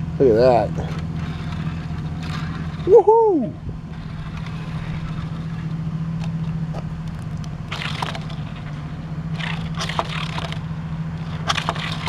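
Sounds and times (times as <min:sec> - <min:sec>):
steady low hum: 0:00.0 - 0:12.0
toy car rolling and scraping: 0:00.2 - 0:03.0, 0:03.8 - 0:12.0.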